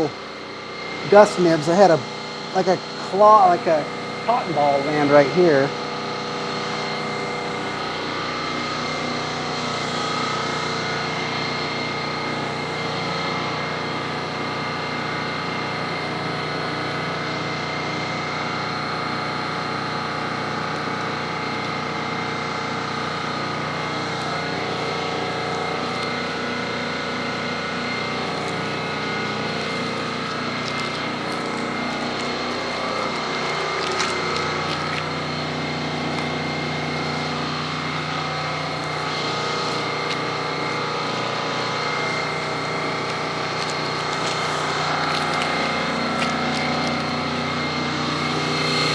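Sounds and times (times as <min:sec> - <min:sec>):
motor-driven machine hum: 0:00.0 - 0:48.9.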